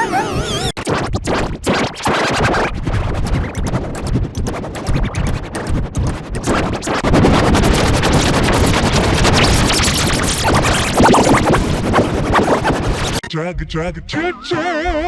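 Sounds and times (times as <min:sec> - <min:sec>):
chopped distorted remix music: 0:00.0 - 0:13.2.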